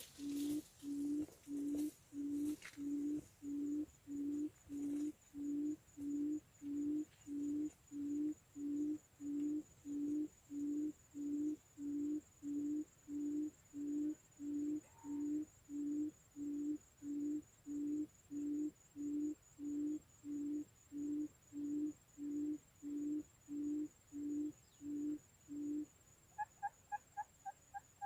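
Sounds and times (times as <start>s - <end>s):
quail call hooting: 0.0s - 28.0s.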